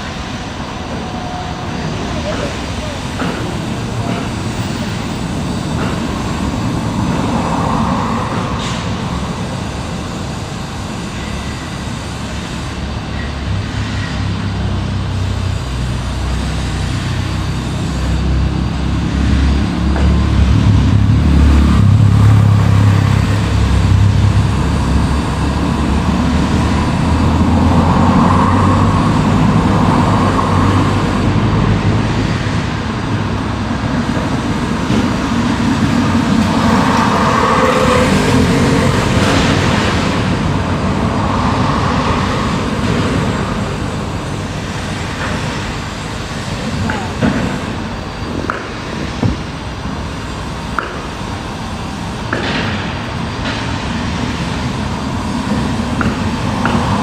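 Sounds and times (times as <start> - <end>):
heavy machine engine rumbling: 0.0 - 57.0.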